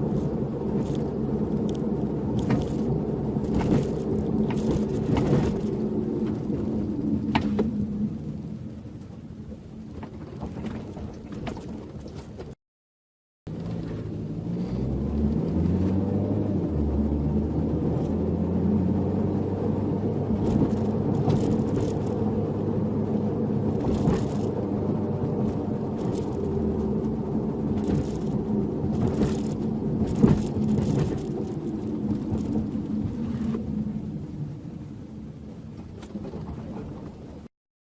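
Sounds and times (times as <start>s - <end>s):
car engine drone: 0.0s - 12.6s, 13.5s - 37.5s
road rumble: 0.0s - 12.6s, 13.5s - 37.5s.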